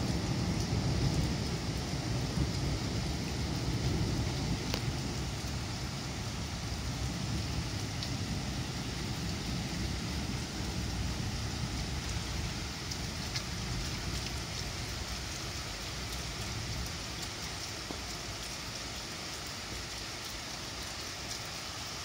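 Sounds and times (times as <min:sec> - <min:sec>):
rain hissing: 0:00.0 - 0:22.0
raindrops ticking: 0:00.0 - 0:22.0.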